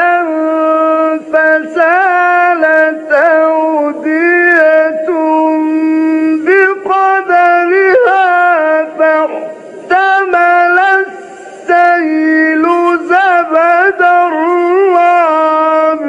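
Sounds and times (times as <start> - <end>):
man chanting with melismatic turns: 0.0 - 16.0.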